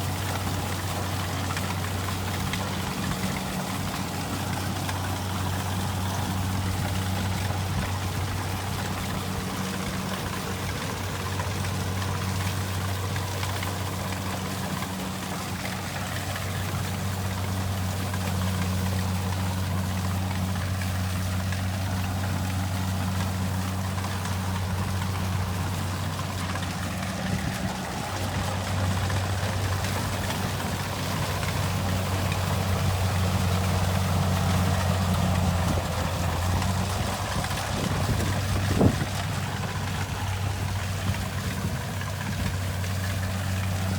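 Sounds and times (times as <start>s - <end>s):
diesel engine drone: 0.0s - 43.9s
rushing machinery noise: 0.0s - 43.9s.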